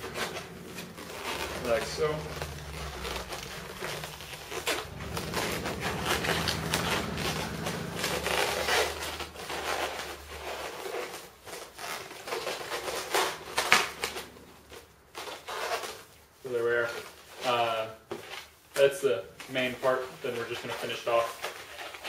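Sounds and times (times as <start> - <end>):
balloons squeaking and rubbing: 0.0 - 18.7, 19.3 - 22.0.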